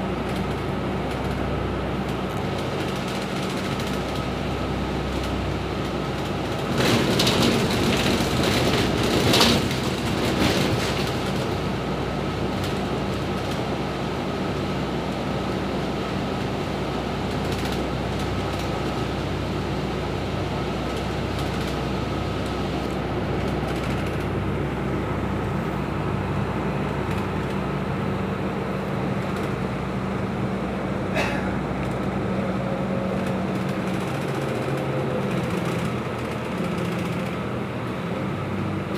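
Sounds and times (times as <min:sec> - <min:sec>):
bus engine and road noise: 0:00.0 - 0:38.9.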